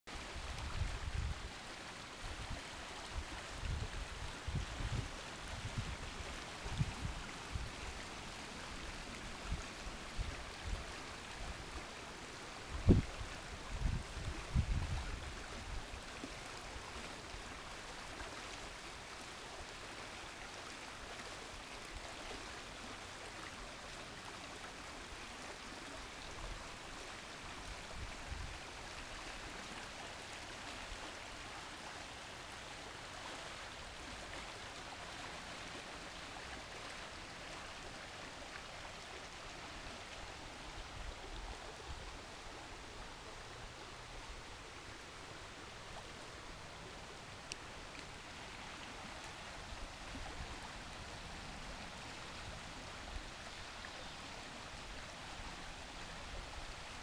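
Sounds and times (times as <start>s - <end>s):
creek water rushing: 0.1s - 57.0s.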